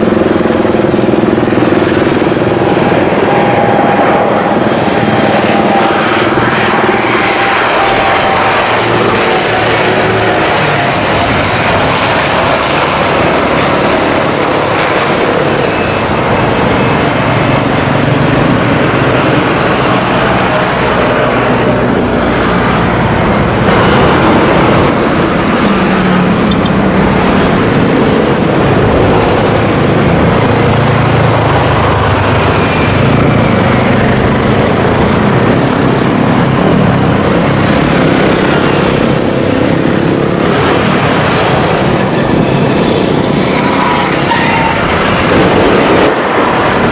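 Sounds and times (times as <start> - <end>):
aircraft engines droning: 0.0 - 46.9.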